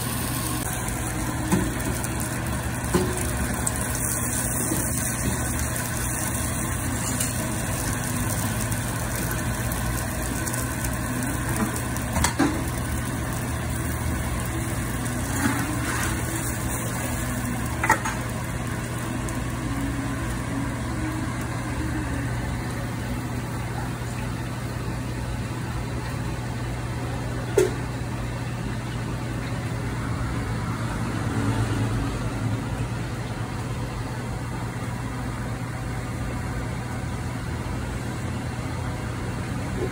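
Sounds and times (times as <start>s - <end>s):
food frying on griddle: 0.0s - 39.9s
kitchen equipment hum: 0.0s - 39.9s.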